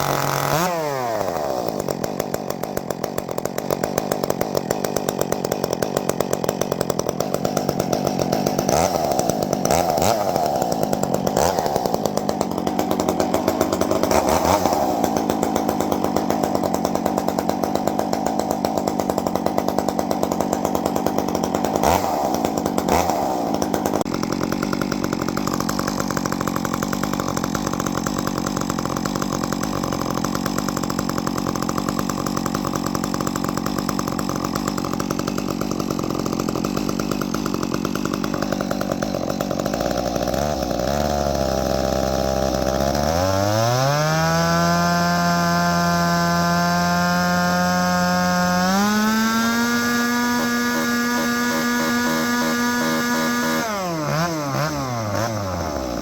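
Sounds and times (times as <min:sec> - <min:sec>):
chainsaw running and revving: 0:00.0 - 0:56.0.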